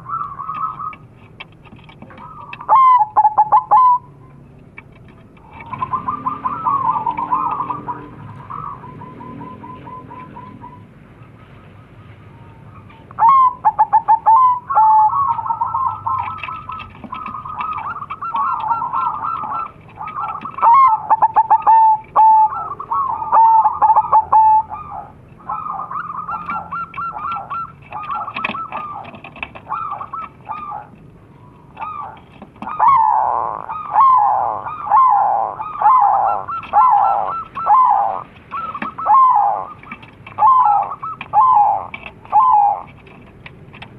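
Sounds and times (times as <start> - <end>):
doves cooing: 0.0 - 4.2, 4.8 - 43.9.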